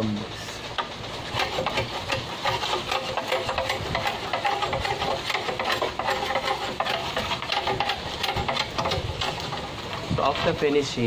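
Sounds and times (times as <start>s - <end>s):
machete scraping bamboo: 0.5s - 11.0s.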